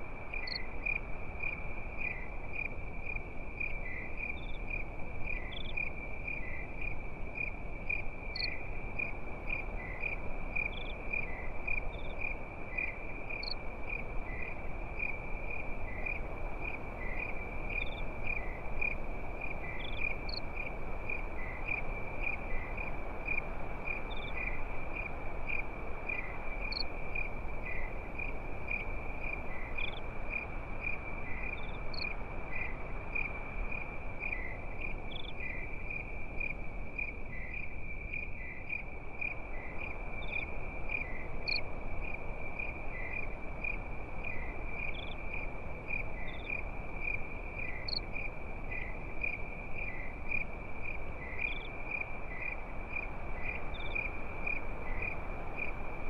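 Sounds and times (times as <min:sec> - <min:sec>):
crickets trilling: 0:00.0 - 0:56.0
low hiss: 0:00.0 - 0:56.0.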